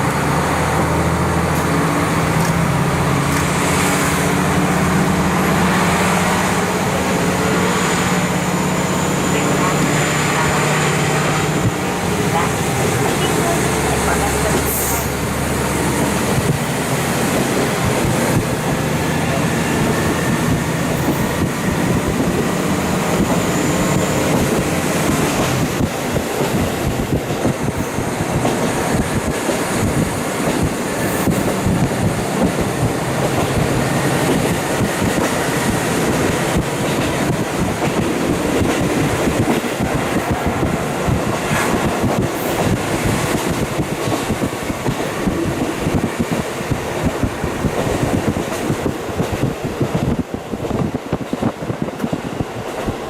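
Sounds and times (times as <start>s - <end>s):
diesel railcar engine: 0.0s - 53.0s
wind rushing in: 0.0s - 53.0s.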